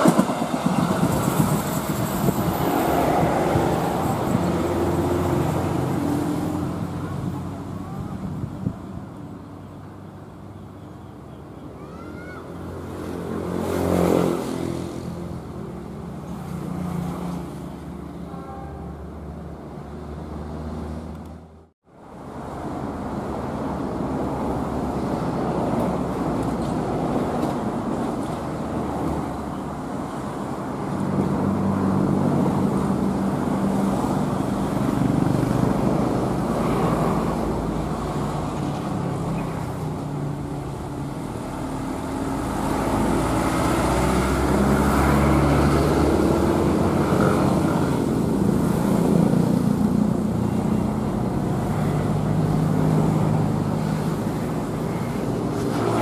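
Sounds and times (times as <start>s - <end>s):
diesel locomotive engine: 0.0s - 56.0s
road vehicles passing: 0.0s - 56.0s.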